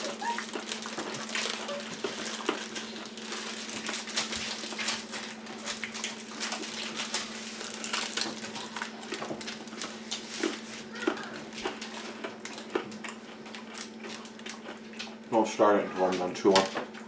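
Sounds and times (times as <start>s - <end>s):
plastic wrappers crinkling: 0.0s - 15.3s.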